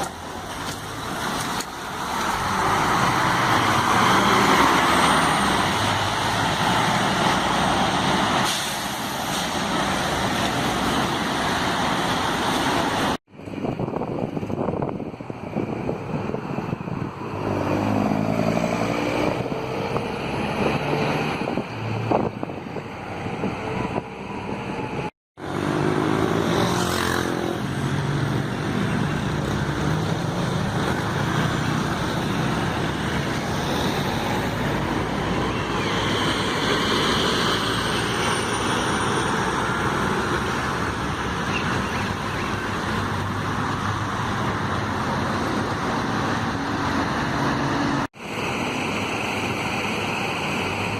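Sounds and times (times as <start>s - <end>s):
bus diesel engine: 0.0s - 50.9s
road and tyre noise: 0.0s - 50.9s.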